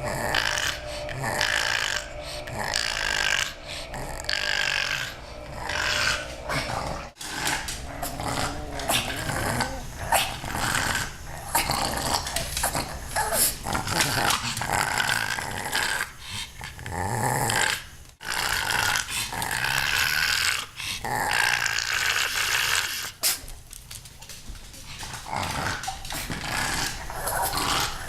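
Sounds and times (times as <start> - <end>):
dog growly vocal noises: 0.0 - 23.4, 24.7 - 28.0.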